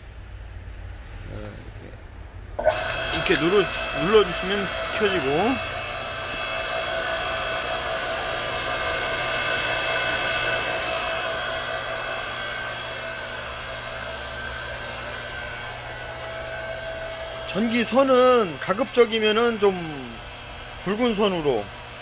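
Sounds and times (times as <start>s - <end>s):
electric motor and pump humming: 2.6s - 22.0s.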